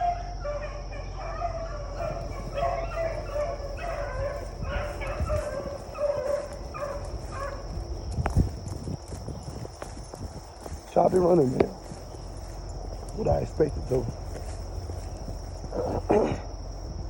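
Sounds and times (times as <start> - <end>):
dogs baying: 0.0 - 16.8
high insect buzz: 0.0 - 17.0.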